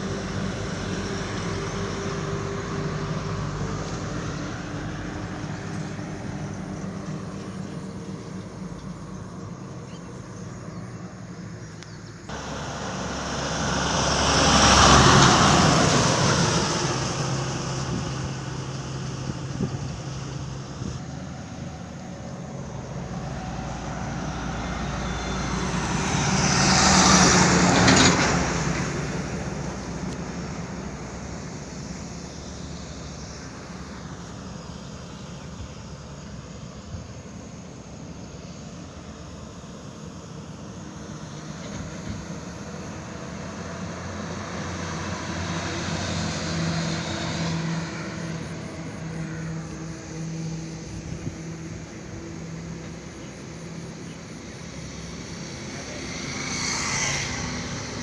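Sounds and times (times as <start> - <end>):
steady engine hum: 0.0 - 58.0
vehicle passing by: 0.0 - 58.0.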